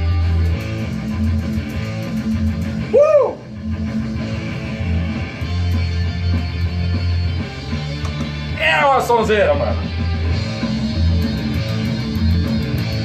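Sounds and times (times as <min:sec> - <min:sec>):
rock song: 0:00.0 - 0:13.0.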